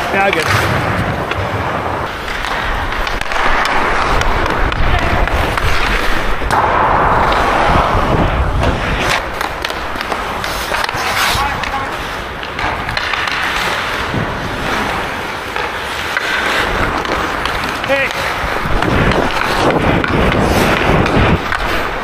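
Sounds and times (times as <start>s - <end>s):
hockey sticks and puck clacking: 0.0s - 22.0s
skate blades scraping ice: 0.0s - 22.0s.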